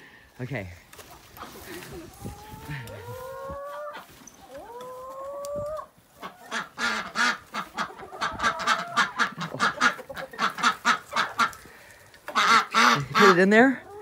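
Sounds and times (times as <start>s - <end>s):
chickens and ducks squawking: 1.0s - 14.0s.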